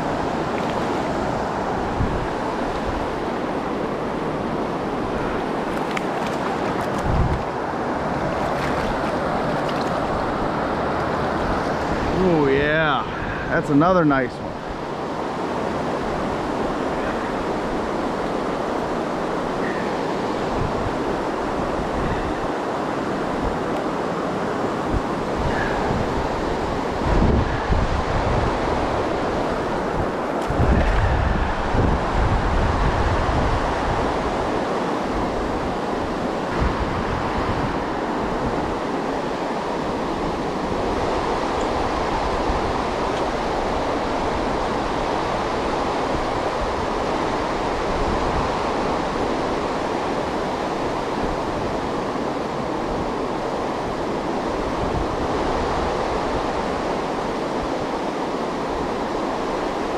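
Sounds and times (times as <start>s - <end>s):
creek water rushing: 0.0s - 59.9s
wind buffeting microphone: 0.0s - 59.9s.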